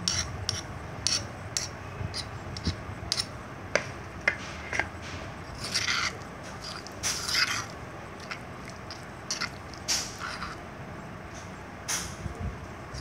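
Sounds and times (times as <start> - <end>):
spoon scraping stone mortar: 0.0 - 10.6.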